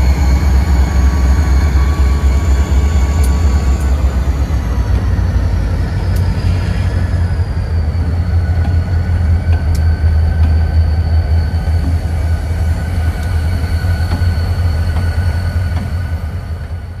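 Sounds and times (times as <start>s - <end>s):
diesel locomotives rumbling: 0.0s - 17.0s.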